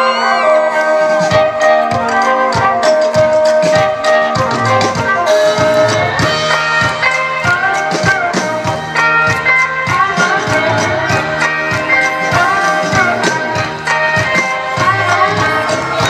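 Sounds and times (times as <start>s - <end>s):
live band playing upbeat music: 0.0s - 16.0s.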